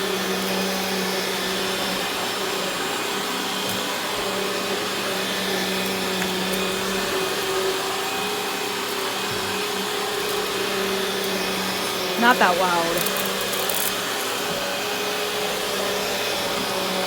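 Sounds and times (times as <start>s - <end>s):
vacuum cleaner running on carpet: 0.0s - 17.0s.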